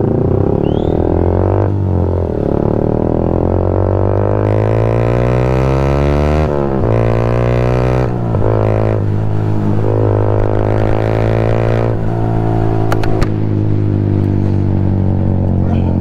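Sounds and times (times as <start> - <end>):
motorcycle engine shifting gears: 0.0 - 16.0.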